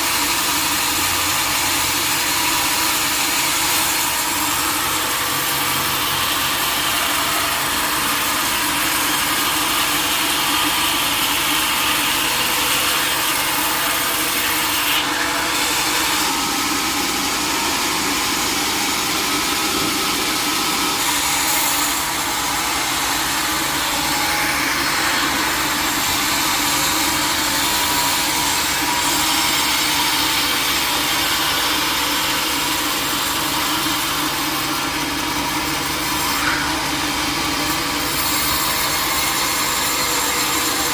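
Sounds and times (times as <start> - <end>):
saw cutting wood: 0.0 - 40.9.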